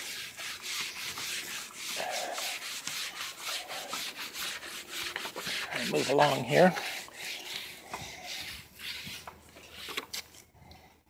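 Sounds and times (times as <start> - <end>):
rag rubbing on wood board: 0.0 - 10.1.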